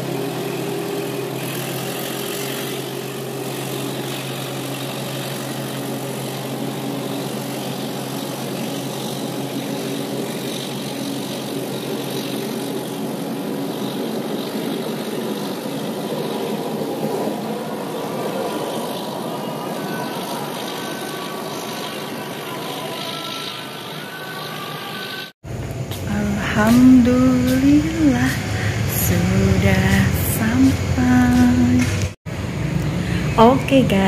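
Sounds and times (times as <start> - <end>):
train carriages rumbling by: 0.0 - 34.0.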